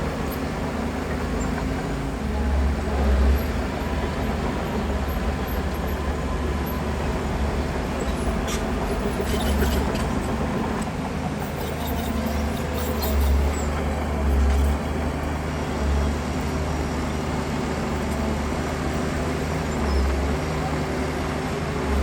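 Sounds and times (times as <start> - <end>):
heavy diesel engine under load: 0.0 - 22.0.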